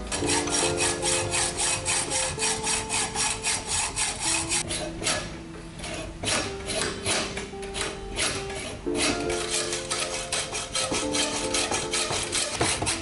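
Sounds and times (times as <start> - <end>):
hacksaw sawing through metal tube: 0.0 - 13.0.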